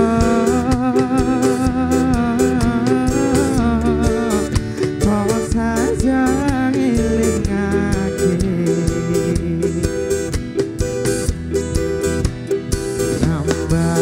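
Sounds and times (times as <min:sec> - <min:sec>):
male lead singer: 0:00.0 - 0:10.6, 0:12.9 - 0:14.0
bass guitar: 0:00.0 - 0:14.0
drum kit: 0:00.0 - 0:14.0
electric guitars: 0:00.0 - 0:14.0.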